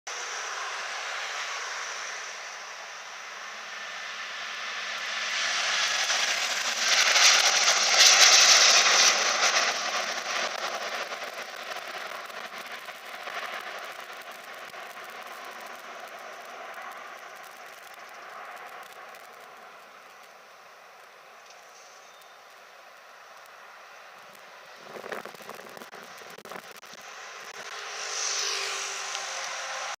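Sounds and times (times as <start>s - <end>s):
jet airliner taking off: 0.1s - 21.0s, 21.8s - 30.0s.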